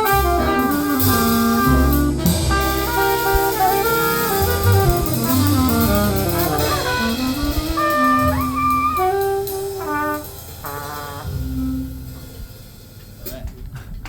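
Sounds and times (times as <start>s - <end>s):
alto saxophone melody: 0.0s - 12.2s
low bass line: 0.0s - 13.0s
drum kit: 0.0s - 14.0s.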